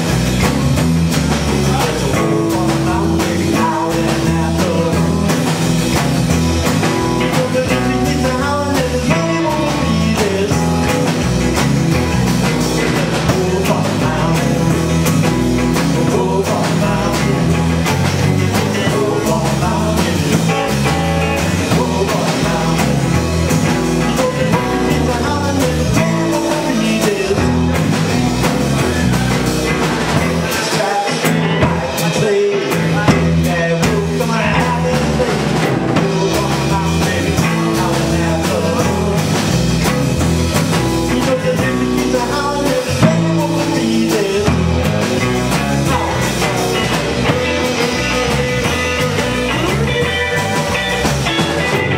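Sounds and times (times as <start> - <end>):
bass guitar: 0.0 - 51.9
drum kit: 0.0 - 51.9
electric guitar: 0.0 - 51.9
man singing: 1.2 - 51.9.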